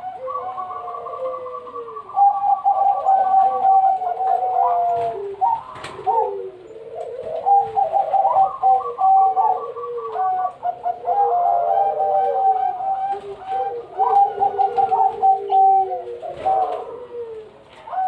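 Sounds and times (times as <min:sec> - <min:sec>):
doves cooing: 0:00.0 - 0:18.0.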